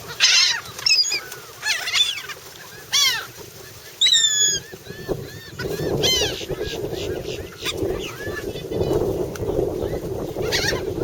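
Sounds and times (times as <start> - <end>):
seagulls calling: 0.0 - 11.0.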